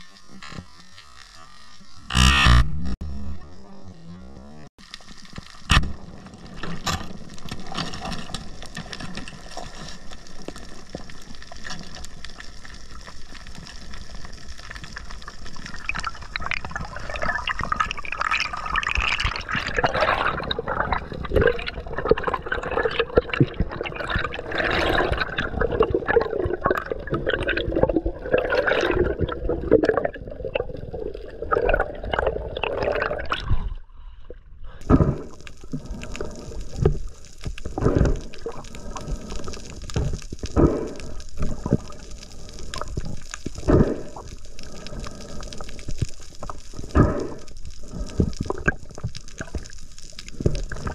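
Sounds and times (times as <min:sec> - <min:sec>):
underwater rushing and gurgling: 0:04.8 - 0:50.9.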